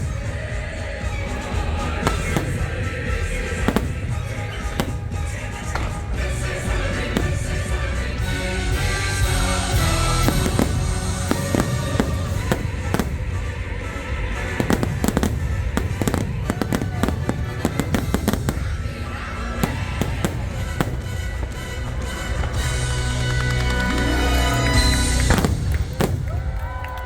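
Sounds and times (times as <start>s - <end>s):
music from loudspeakers: 0.0s - 26.6s
fireworks bursting: 0.0s - 27.0s.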